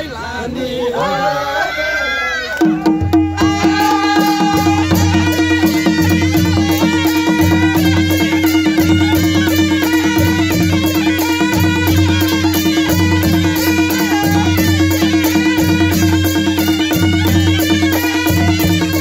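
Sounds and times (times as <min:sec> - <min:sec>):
drums and cymbals beat: 0:02.6 - 0:19.0
reed instrument melody: 0:02.6 - 0:19.0.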